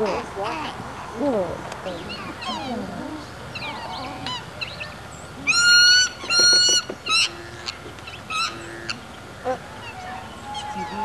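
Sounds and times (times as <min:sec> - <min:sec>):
swans calling: 0:01.9 - 0:11.0.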